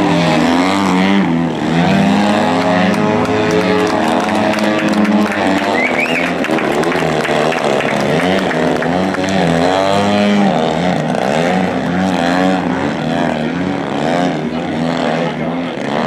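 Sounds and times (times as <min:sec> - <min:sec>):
model plane engines: 0:00.0 - 0:16.0.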